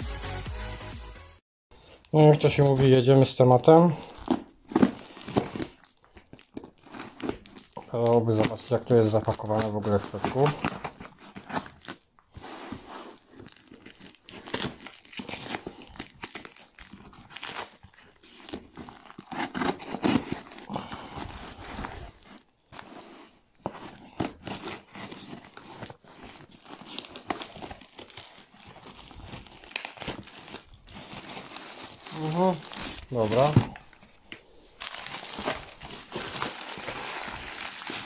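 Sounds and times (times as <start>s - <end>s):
plastic film and cardboard tearing: 2.4s - 23.0s, 24.0s - 34.0s, 34.8s - 38.0s.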